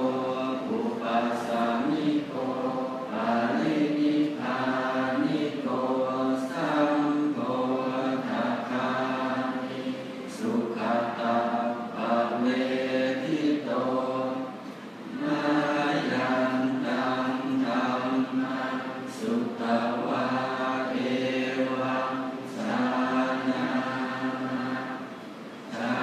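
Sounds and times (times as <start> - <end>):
monks chanting in unison: 0.0 - 26.0.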